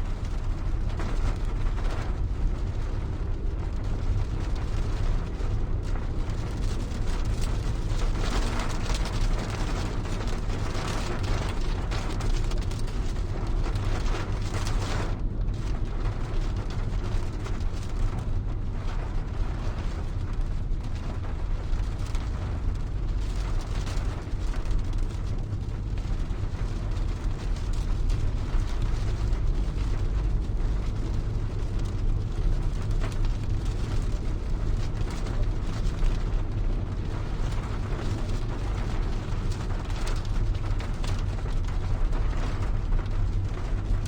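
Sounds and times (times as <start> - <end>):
deep rumble: 0.0 - 44.0
rain on car roof: 0.0 - 44.0.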